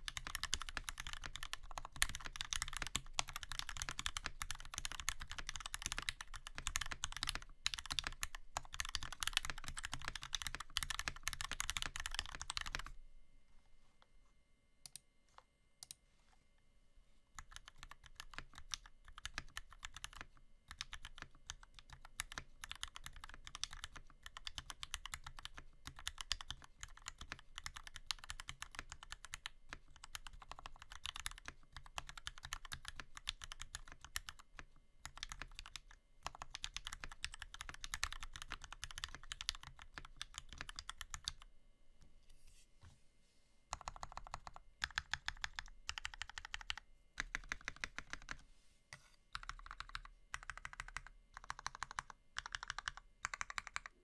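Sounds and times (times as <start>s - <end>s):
mechanical keyboard typing: 0.0s - 12.9s, 17.4s - 41.4s, 43.7s - 48.4s, 49.3s - 54.0s.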